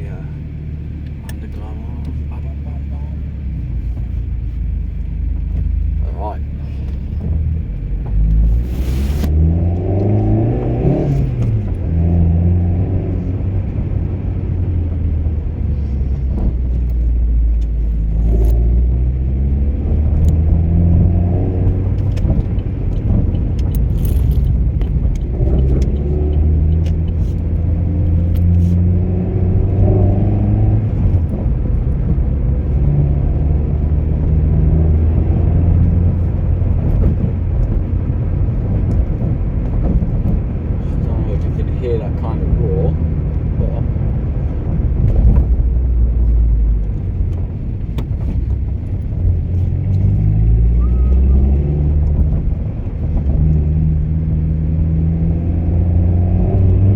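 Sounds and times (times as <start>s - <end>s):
car engine accelerating: 0.0s - 56.9s.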